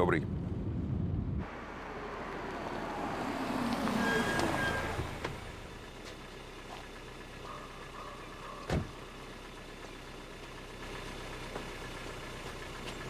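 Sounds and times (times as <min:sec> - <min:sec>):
car engine idling: 0:01.4 - 0:13.0.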